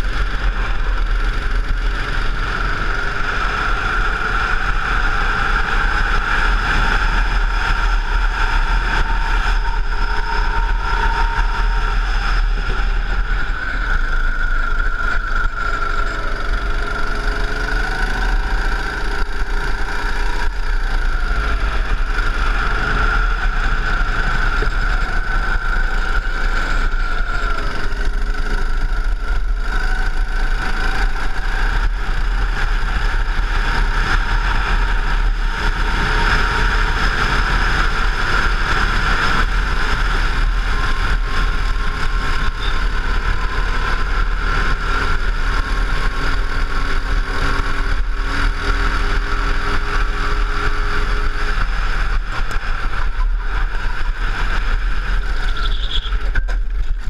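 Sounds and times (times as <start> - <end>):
go-kart engine racing: 0.0 - 57.0.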